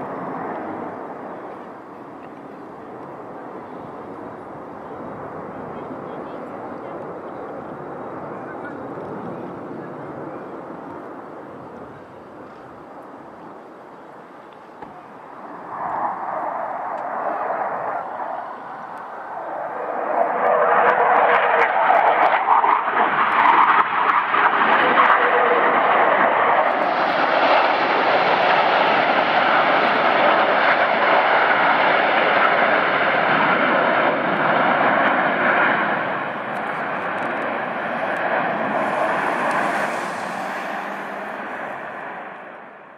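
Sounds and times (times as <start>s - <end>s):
jets flying past: 0.0s - 13.7s, 14.9s - 42.9s.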